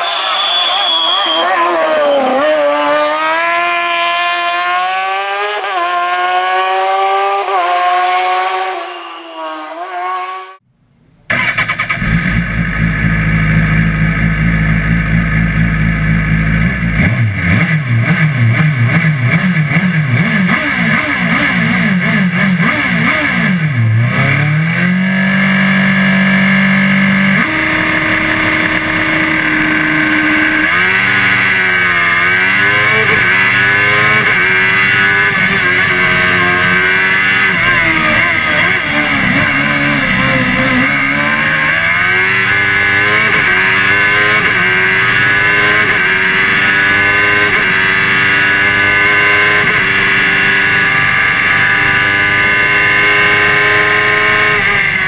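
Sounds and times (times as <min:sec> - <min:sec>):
race car engine accelerating: 0:00.0 - 0:10.6, 0:11.2 - 0:55.0
race car engine idling and revving: 0:01.3 - 0:55.0.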